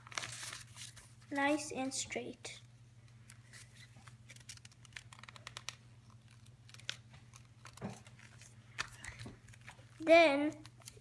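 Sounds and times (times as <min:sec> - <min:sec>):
paper being folded and creased: 0:00.0 - 0:01.6, 0:03.0 - 0:11.0.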